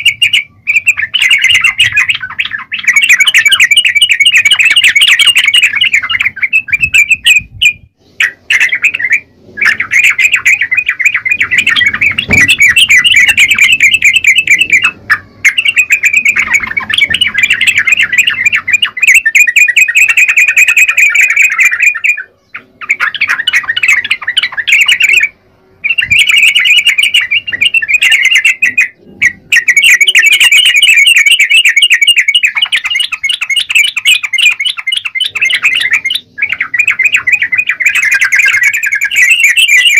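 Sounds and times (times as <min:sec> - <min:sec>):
bulbul singing rapid chattering notes: 0:00.0 - 0:39.9.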